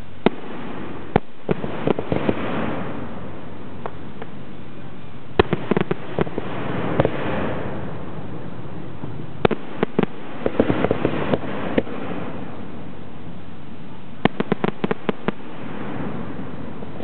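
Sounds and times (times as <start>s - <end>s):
firework shells bursting: 0.0s - 4.4s, 5.4s - 8.0s, 9.1s - 12.9s, 14.2s - 17.0s
constant hiss: 0.0s - 17.0s.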